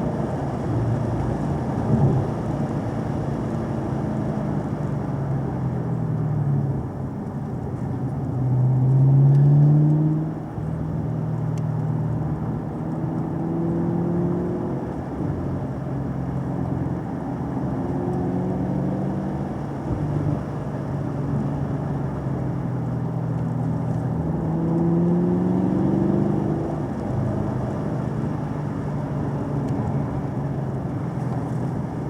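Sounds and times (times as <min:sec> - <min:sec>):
car engine running under load: 0:00.0 - 0:32.0
road and tyre noise: 0:00.0 - 0:32.0.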